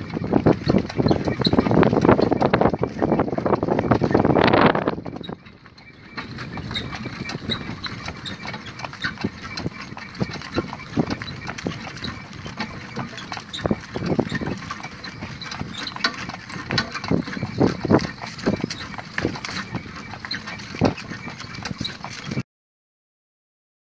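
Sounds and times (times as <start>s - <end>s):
cart and harness rattling: 0.0s - 22.4s
hoofbeats on dirt track: 0.0s - 22.4s.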